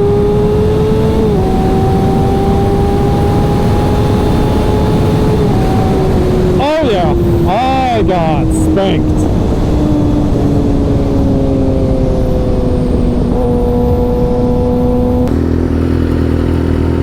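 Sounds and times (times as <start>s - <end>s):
wind rushing on microphone: 0.0s - 15.3s
motorbike engine cruising: 0.0s - 17.0s.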